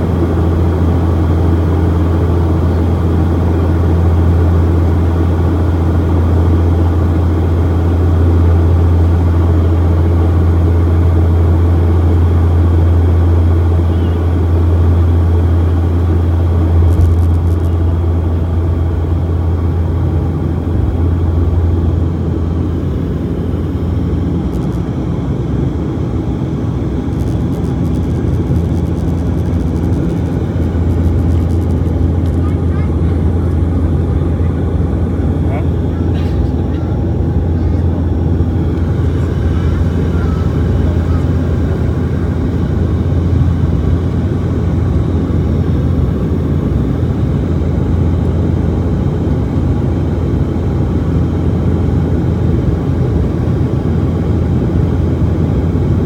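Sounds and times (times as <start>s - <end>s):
engine and airflow noise: 0.0s - 56.0s
propeller drone: 0.0s - 56.0s.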